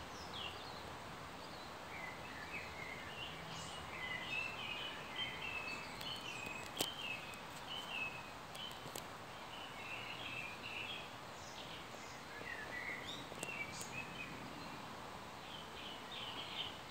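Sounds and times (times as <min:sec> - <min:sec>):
outdoor background hiss: 0:00.0 - 0:16.9.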